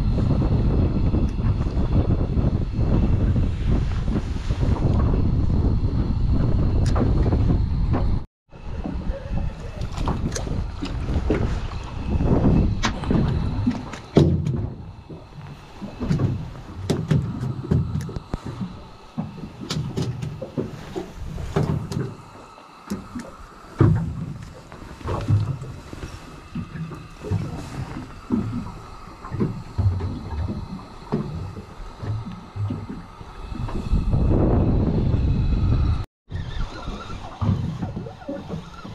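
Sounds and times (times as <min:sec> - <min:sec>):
low bumps and rumbles: 0:00.0 - 0:38.9.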